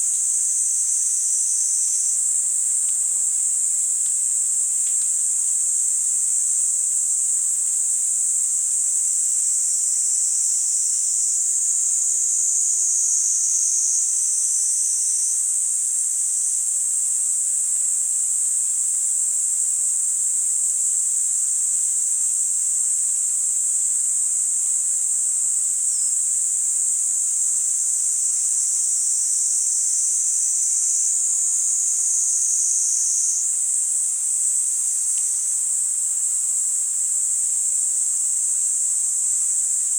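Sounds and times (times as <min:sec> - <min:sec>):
cicadas singing: 0:00.0 - 0:18.1, 0:19.4 - 0:39.9.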